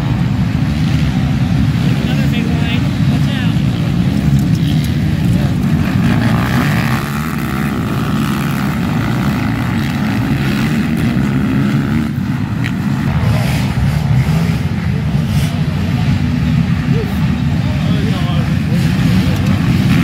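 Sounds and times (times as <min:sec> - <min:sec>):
quad engines revving: 0:00.0 - 0:20.0.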